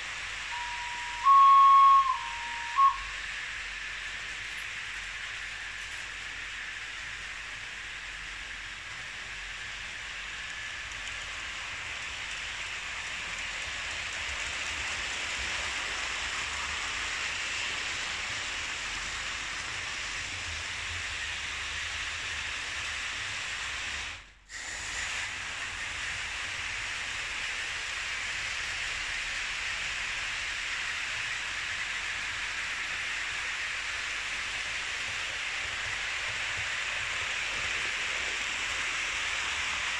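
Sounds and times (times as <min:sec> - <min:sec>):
model trains running on metal track: 0:00.0 - 0:39.9.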